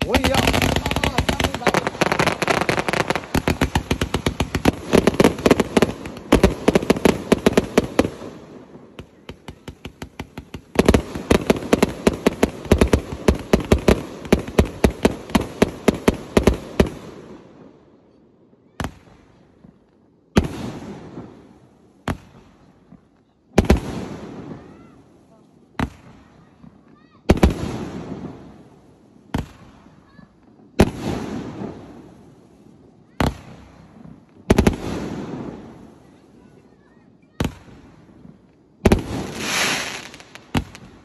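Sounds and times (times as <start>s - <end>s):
fireworks firing in volleys: 0.0s - 41.0s.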